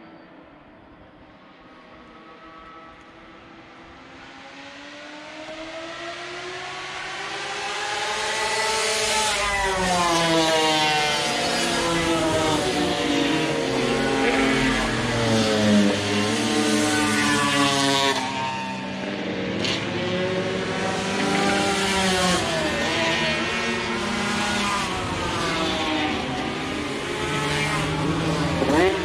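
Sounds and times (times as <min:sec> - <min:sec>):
motorcycles revving past: 0:05.4 - 0:29.0.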